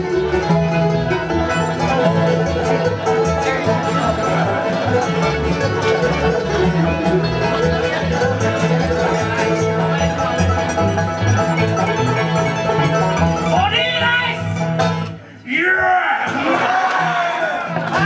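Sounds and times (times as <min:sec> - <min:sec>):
fiddle: 0:00.0 - 0:15.2
banjo: 0:00.0 - 0:15.3, 0:16.3 - 0:18.0
acoustic guitars: 0:00.0 - 0:15.4, 0:16.2 - 0:18.0
upright bass: 0:00.0 - 0:15.4, 0:16.3 - 0:18.0.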